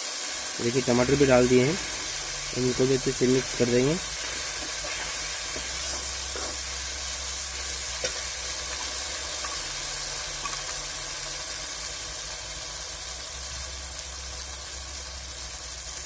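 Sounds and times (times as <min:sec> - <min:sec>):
masala sizzling in hot oil: 0:00.0 - 0:16.0.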